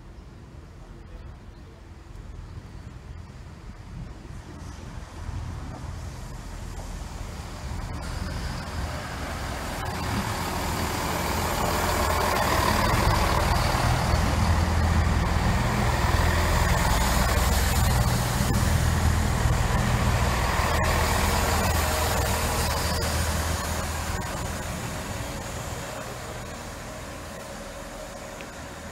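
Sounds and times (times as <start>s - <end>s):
diesel train engines rumbling: 0.0s - 28.9s.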